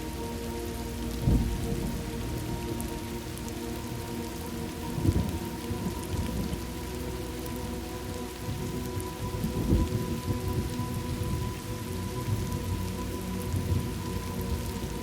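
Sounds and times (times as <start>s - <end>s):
steady rain: 0.0s - 15.0s
thunder rumbling: 1.1s - 6.8s, 8.4s - 15.0s.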